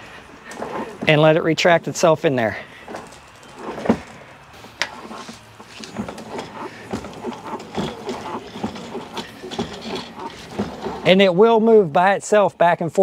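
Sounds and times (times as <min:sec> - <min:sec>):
hose reel winding: 0:00.0 - 0:11.3.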